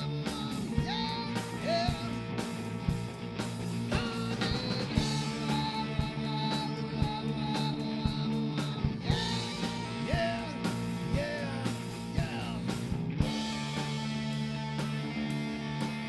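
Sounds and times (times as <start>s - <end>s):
guitar: 0.0s - 16.0s
rock music: 0.0s - 16.0s
steady drum beat: 0.0s - 16.0s.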